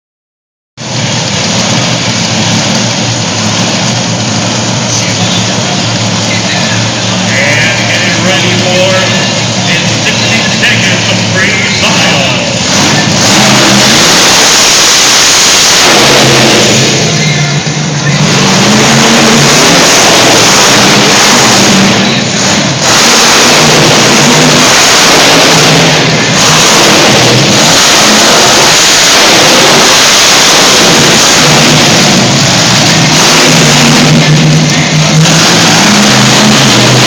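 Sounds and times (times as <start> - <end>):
truck engine revving loudly: 0.8 - 37.0.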